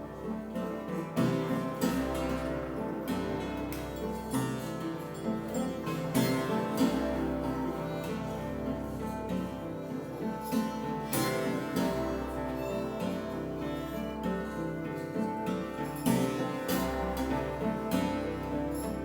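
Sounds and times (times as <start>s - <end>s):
plucked string instruments: 0.0s - 19.0s.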